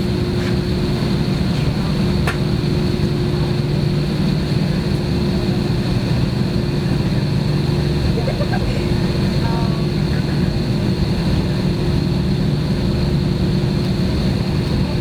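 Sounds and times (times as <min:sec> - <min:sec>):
jet engines humming: 0:00.0 - 0:15.0.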